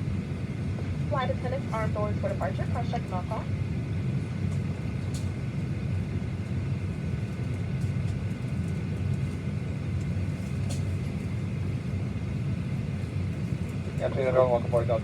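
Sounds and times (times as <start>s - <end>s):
aircraft cabin rumble and hum: 0.0s - 15.0s.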